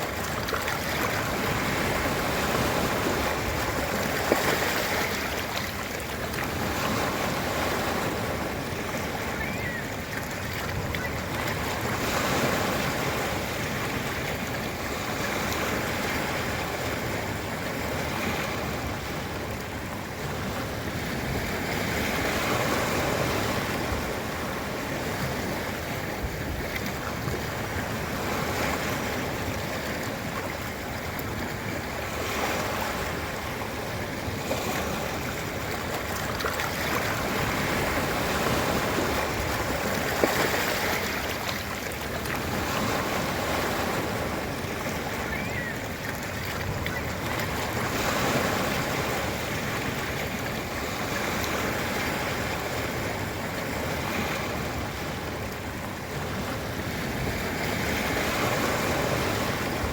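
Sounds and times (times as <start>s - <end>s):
waves breaking on a beach: 0.0s - 59.9s.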